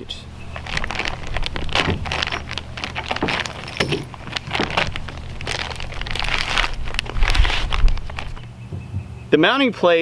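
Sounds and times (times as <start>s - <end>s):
steady low hum: 0.0s - 9.7s
plastic bag crinkling: 0.4s - 8.5s.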